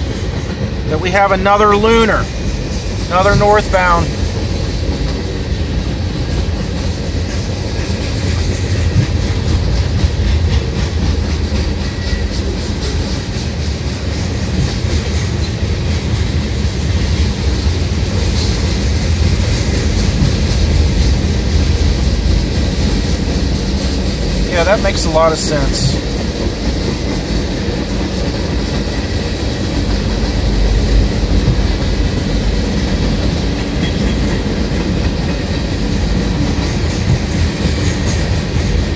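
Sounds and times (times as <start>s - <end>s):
steel wheels rumbling on rail: 0.0s - 38.9s
wheels clicking over rail joints: 1.9s - 24.5s, 25.7s - 38.9s.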